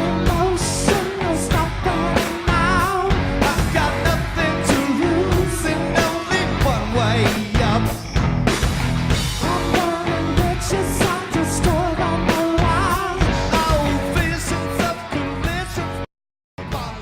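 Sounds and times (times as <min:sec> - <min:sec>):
steady drum beat: 0:00.0 - 0:15.8
electric guitar: 0:00.0 - 0:16.0
rock song with singing: 0:00.0 - 0:17.0.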